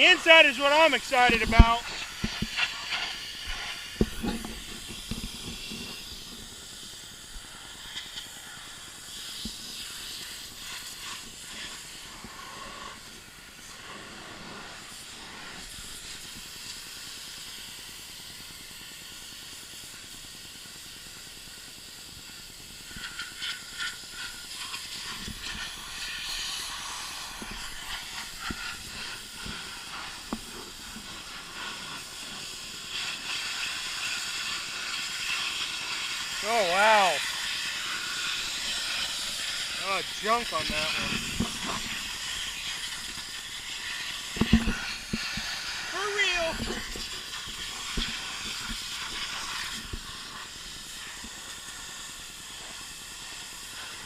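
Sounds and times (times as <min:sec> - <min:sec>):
pressure washer spray hissing: 0:00.0 - 0:54.0.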